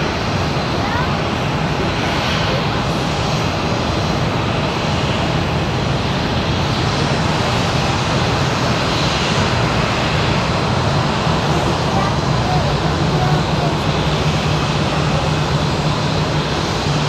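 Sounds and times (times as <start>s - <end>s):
jet engines at taxi thrust: 0.0s - 17.0s.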